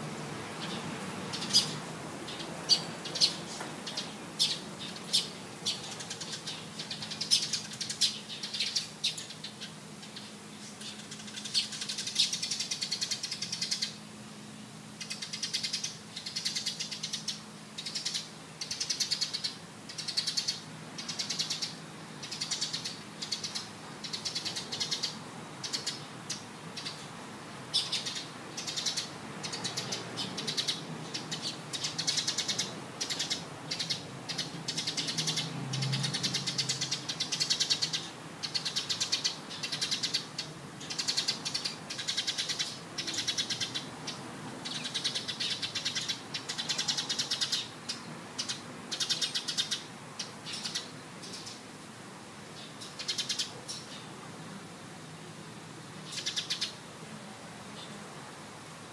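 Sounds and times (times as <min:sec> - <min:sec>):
small birds trilling: 0:00.0 - 0:14.0, 0:15.0 - 0:51.7, 0:52.5 - 0:54.2, 0:56.0 - 0:56.8.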